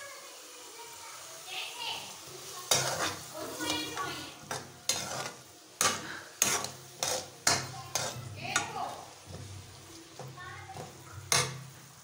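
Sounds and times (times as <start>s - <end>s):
oil sizzling: 0.0s - 12.0s
metal spatula scraping pan: 2.4s - 12.0s.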